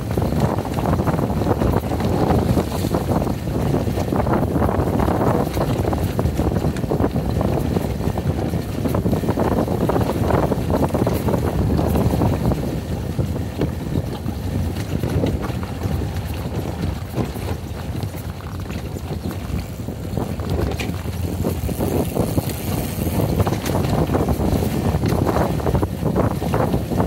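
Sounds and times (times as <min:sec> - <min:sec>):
knocks and rattles from bumps: 0:00.0 - 0:27.0
motorcycle engine running: 0:00.0 - 0:27.0
wind on microphone: 0:00.0 - 0:27.0.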